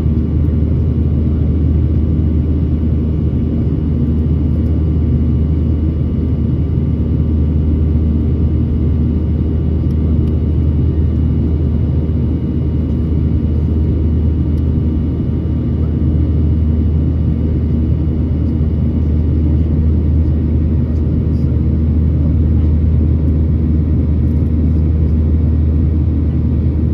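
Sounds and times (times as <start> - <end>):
airplane cabin drone: 0.0 - 26.9
faint steady whine: 0.0 - 26.9.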